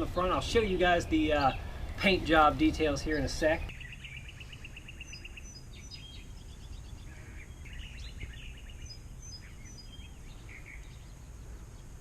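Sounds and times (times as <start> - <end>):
birds chirping: 0.0 - 12.0
low outdoor rumble: 0.0 - 12.0.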